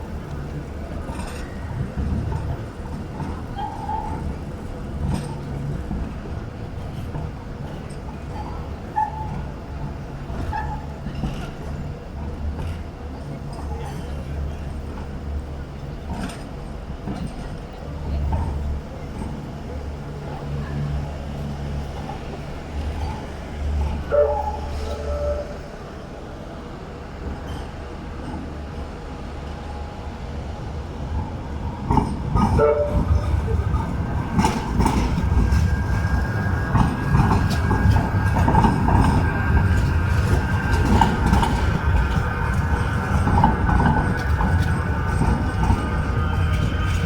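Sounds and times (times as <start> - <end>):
tram rumbling on track: 0.0 - 47.0.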